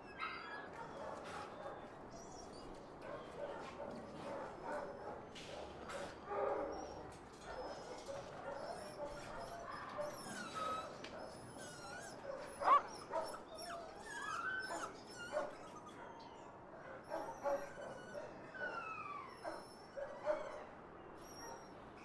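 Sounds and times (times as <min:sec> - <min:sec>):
dogs whimpering and yipping: 0:00.0 - 0:22.0.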